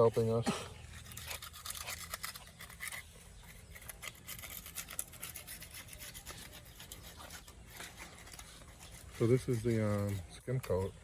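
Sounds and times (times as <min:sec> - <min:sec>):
scratchy rubbing strokes: 0:00.0 - 0:11.0.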